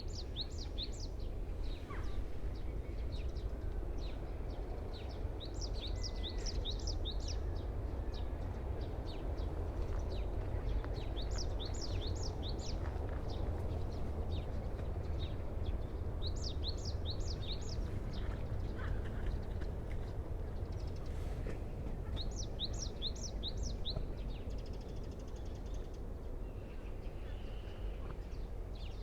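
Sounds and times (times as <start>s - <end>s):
songbird singing: 0.0s - 19.7s, 20.5s - 29.0s.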